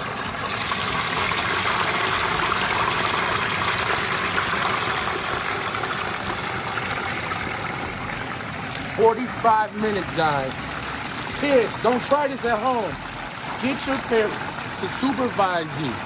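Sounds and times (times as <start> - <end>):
fire hissing: 0.0 - 15.7.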